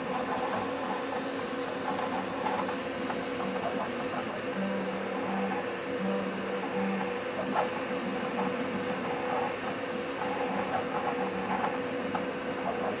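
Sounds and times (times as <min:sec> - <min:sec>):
cooling fans whirring: 0:00.0 - 0:13.0.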